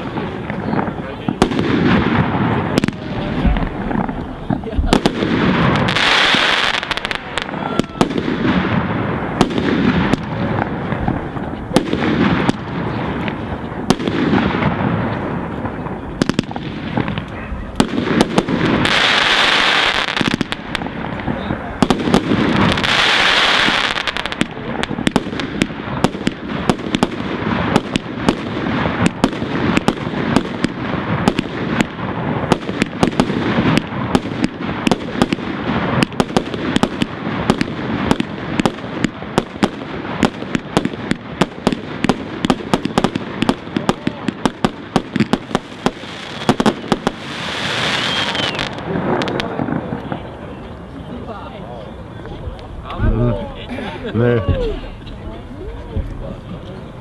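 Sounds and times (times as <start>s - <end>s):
firework hiss: 0.0s - 50.0s
fireworks bangs and crackles: 0.0s - 57.0s.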